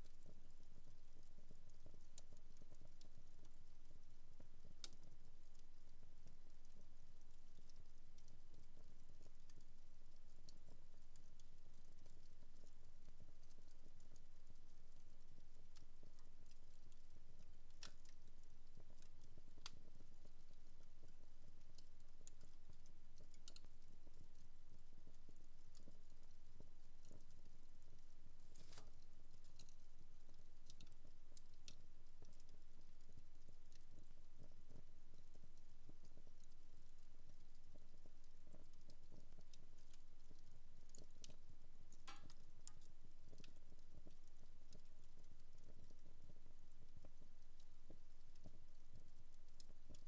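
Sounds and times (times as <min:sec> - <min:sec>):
fire crackling softly: 0:00.0 - 0:50.0.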